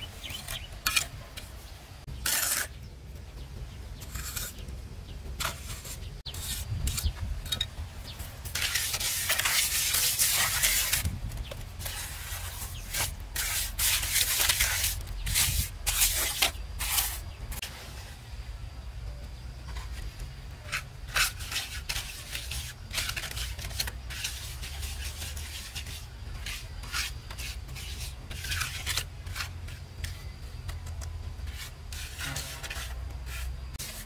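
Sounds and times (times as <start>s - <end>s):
rough scraping strokes: 0.0s - 2.8s, 4.0s - 4.6s, 5.3s - 11.2s, 11.8s - 18.1s, 19.7s - 30.8s, 31.4s - 34.0s.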